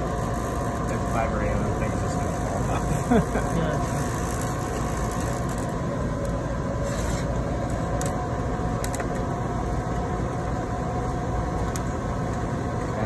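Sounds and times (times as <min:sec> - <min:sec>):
water bath hum and fan noise: 0:00.0 - 0:13.0.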